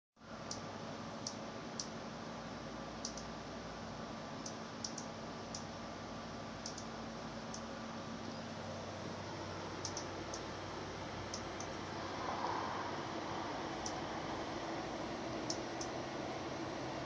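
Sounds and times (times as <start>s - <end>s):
low hum: 0.2s - 17.0s
steady hiss: 1.4s - 17.0s.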